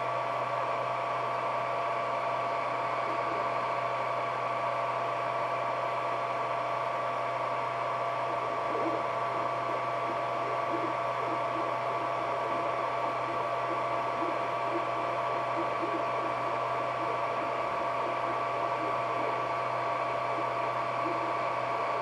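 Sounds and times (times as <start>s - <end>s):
printer cooling fans whirring: 0.0s - 22.0s.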